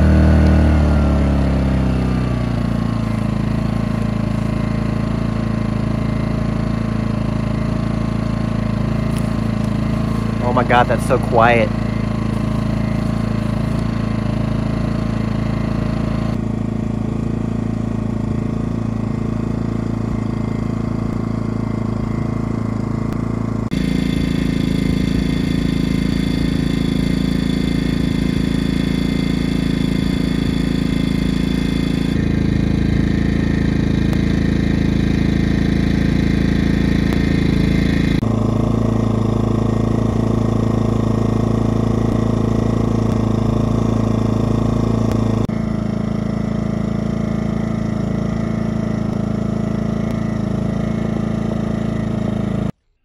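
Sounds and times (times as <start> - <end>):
generator engine humming: 0.0 - 52.8.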